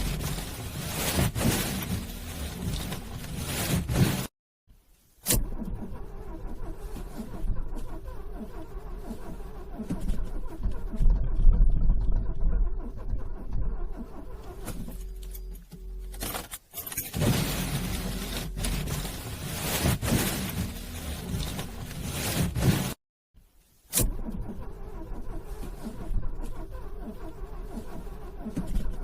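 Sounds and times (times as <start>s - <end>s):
car engine cranking: 0.0s - 4.3s, 5.2s - 23.0s, 23.9s - 29.0s.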